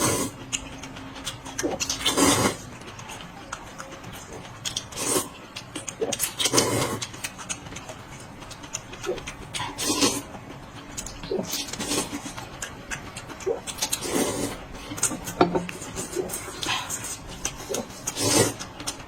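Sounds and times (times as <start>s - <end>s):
person chewing and slurping: 0.0s - 19.0s.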